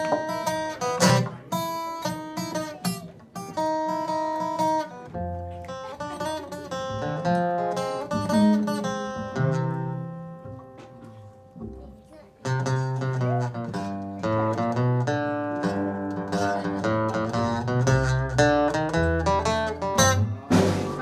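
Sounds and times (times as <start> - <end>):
acoustic guitar blues: 0.0 - 21.0.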